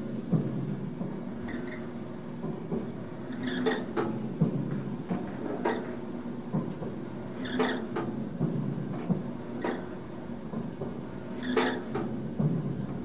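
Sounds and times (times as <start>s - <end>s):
low machinery hum: 0.0s - 13.0s
oil derrick machinery squeaks and knocks: 1.4s - 12.9s.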